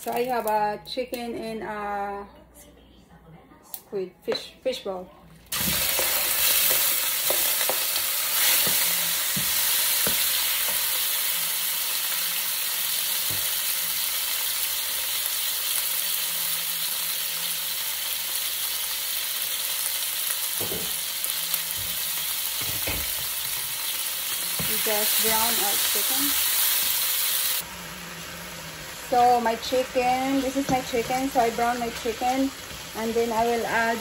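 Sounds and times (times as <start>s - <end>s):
chicken sizzling in hot oil: 5.5s - 34.0s.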